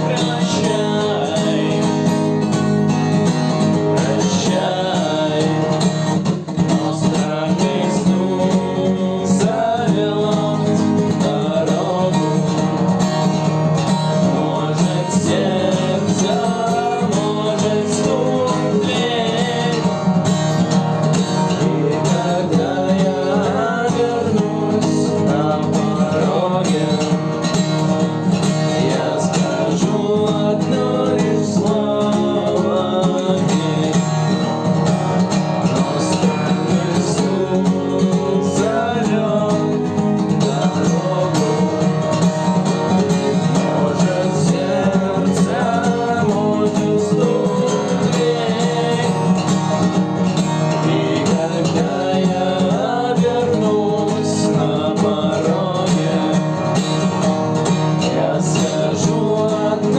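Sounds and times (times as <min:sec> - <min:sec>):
guitar strumming with melody: 0:00.0 - 0:59.9.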